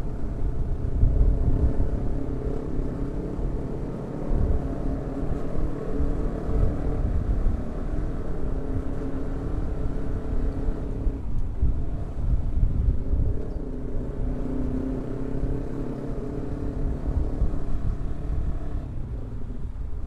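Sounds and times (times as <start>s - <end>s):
heavy low rumble: 0.0s - 20.0s
motorcycle engine running: 0.0s - 20.0s.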